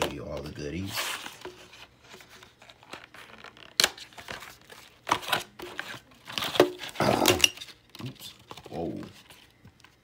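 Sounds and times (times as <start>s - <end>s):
plastic packaging crinkling and tearing: 0.7s - 10.0s.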